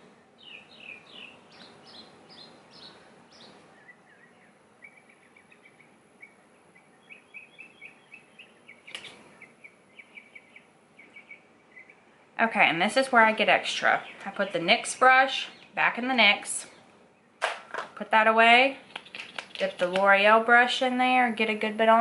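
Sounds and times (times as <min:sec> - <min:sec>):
faint birdsong chirps: 0:00.0 - 0:17.4, 0:18.3 - 0:20.2.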